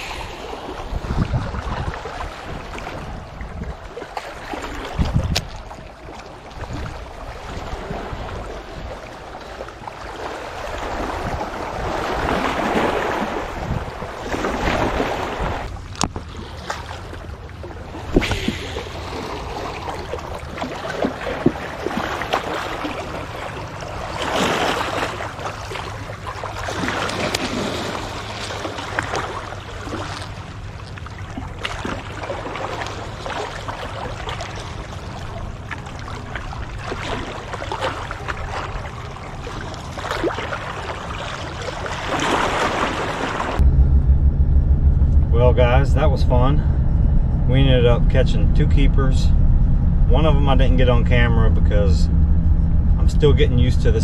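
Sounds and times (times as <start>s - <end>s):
wind rumble on microphone: 0.0s - 39.4s, 42.3s - 54.0s
small waves lapping against rocks: 0.0s - 43.6s.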